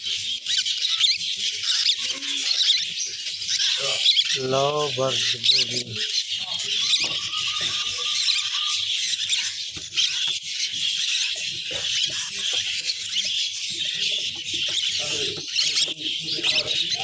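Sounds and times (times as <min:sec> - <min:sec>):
lovebirds chattering: 0:00.0 - 0:17.0.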